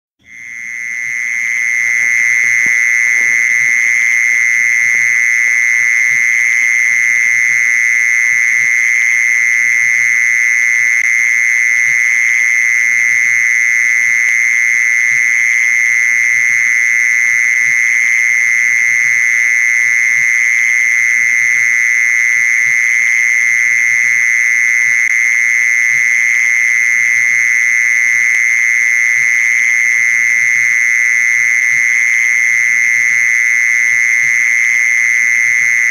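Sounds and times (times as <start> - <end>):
high-pitched cricket trill: 0.2 - 35.9.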